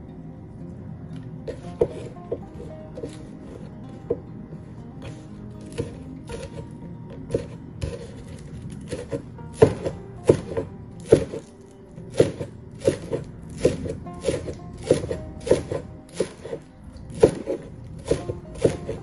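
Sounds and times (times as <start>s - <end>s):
quiet background music: 0.0s - 19.0s
knife chopping on wooden board: 1.5s - 4.2s, 5.0s - 11.5s, 12.1s - 19.0s.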